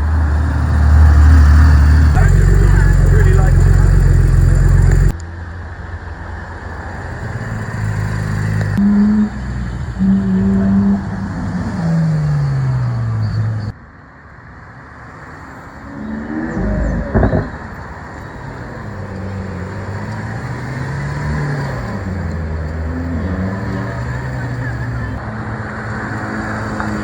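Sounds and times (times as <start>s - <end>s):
car engines revving: 0.0s - 5.5s, 6.1s - 13.8s, 15.1s - 27.0s.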